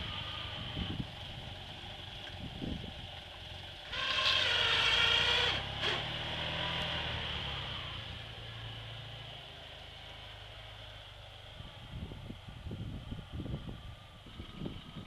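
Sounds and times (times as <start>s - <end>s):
small car engine running: 0.0s - 15.0s.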